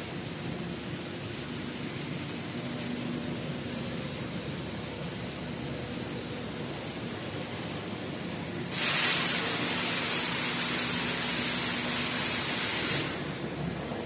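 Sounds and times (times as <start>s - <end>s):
loud hiss: 0.0s - 13.8s
factory machinery hum: 0.0s - 14.0s.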